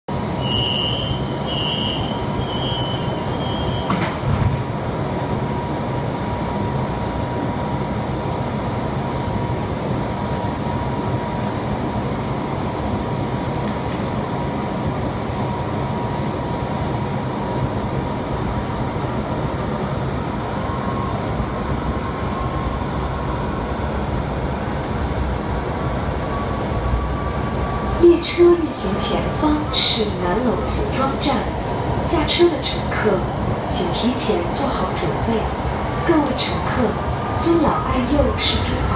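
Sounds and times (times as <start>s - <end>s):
subway car hum and rumble: 0.0s - 38.9s
faint train whine: 0.1s - 38.9s.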